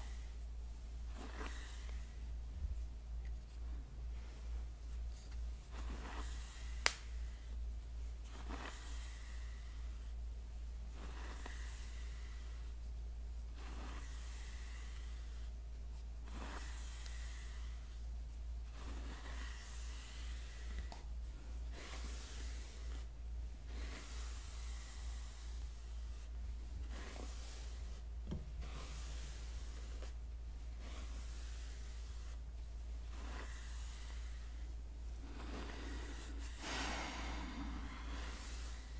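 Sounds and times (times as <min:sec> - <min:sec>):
hairbrush strokes: 0:00.0 - 0:38.9.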